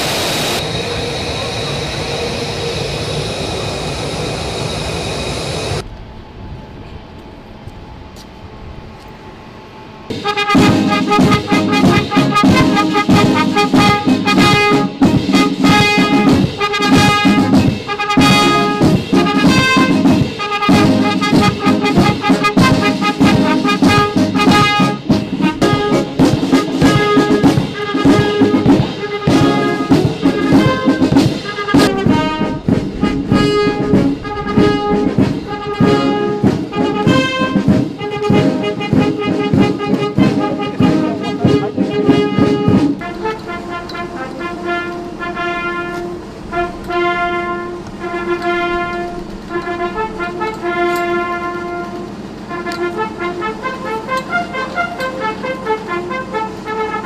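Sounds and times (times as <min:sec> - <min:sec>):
jet engine whine: 0:00.0 - 0:57.0
military brass band playing: 0:10.1 - 0:57.0.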